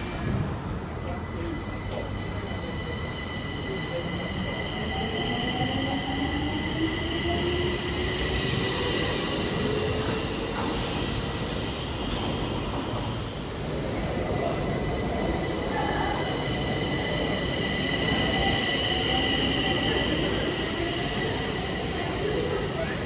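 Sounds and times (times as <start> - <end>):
train wheels squealing: 0.0 - 23.0.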